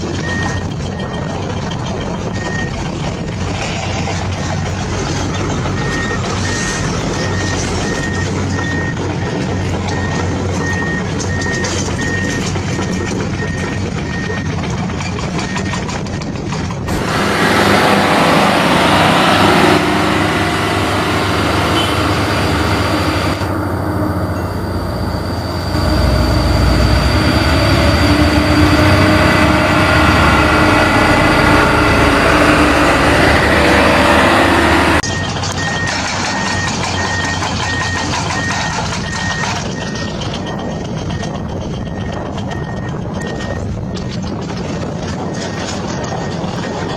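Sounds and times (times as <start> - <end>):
loud noisy sound: 0.0 - 46.9
low engine rumble: 0.0 - 46.9
truck reversing beeper: 0.0 - 46.9.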